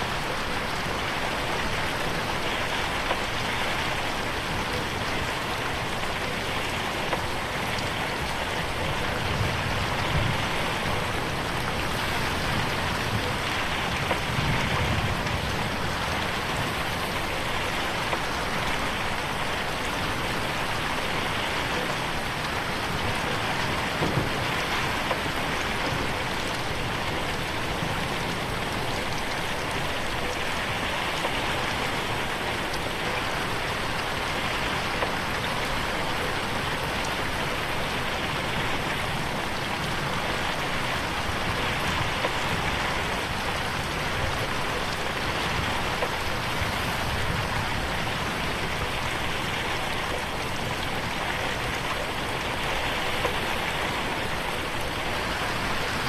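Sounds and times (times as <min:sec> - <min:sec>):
rain pattering on window: 0:00.0 - 0:56.0.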